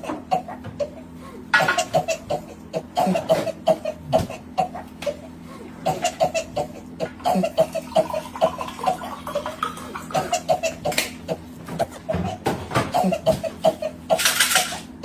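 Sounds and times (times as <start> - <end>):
person coughing: 0.0 - 14.4.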